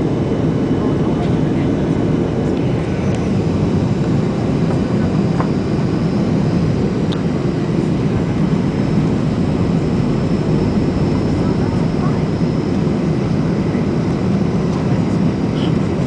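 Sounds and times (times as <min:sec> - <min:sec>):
jet engine and airflow roar: 0:00.0 - 0:16.0.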